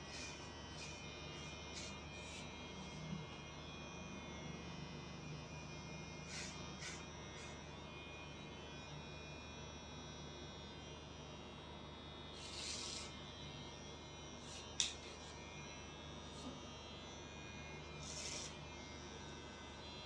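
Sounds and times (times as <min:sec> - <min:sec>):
electric hair trimmer humming: 0:00.0 - 0:20.0.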